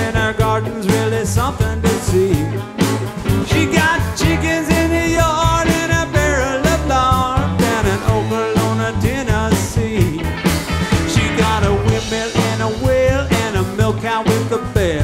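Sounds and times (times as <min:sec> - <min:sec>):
lead vocal singing: 0:00.0 - 0:02.7, 0:03.3 - 0:10.4, 0:11.0 - 0:15.0
drums: 0:00.0 - 0:15.0
electric guitar: 0:00.0 - 0:15.0.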